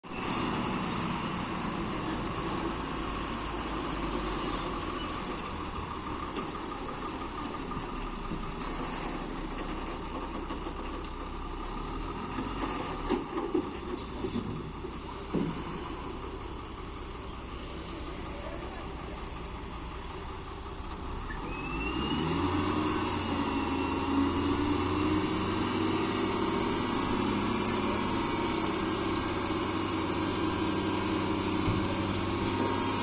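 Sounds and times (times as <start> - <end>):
diesel engine running: 0.1 - 33.0.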